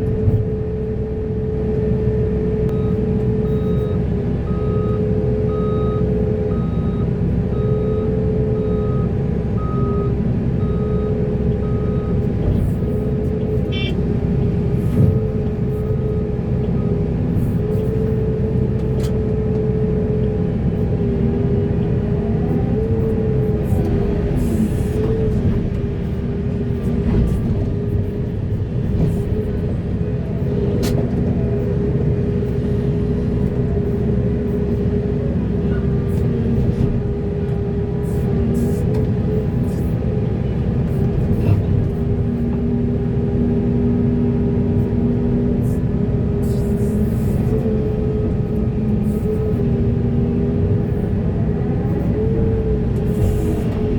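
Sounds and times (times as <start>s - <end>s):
excavator diesel engine and hydraulics: 0.0s - 53.9s.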